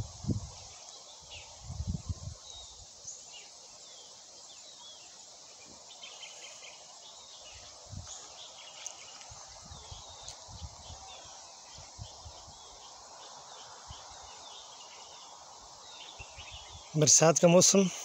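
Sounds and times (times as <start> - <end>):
insects hissing: 0.0 - 18.0.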